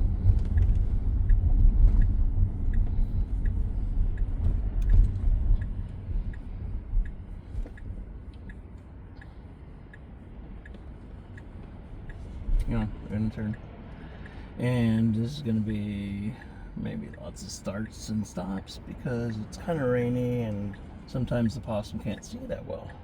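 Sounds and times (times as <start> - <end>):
road and tyre rumble in car: 0.0 - 23.0
turn signal ticking: 0.0 - 23.0.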